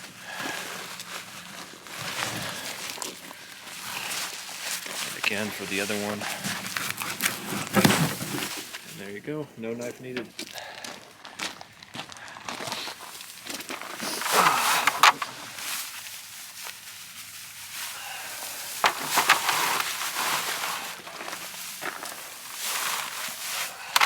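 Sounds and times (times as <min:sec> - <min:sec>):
dry hay rustling and crackling: 0:00.0 - 0:24.0.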